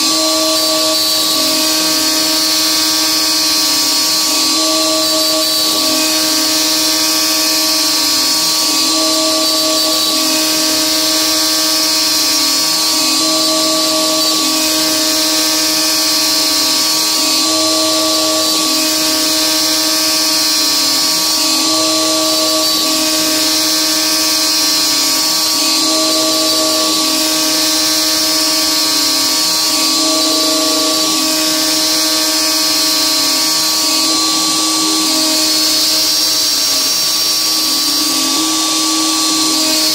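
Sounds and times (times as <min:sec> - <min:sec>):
endmill cutting aluminum: 0:00.0 - 0:39.9
router spindle whining: 0:00.0 - 0:39.9.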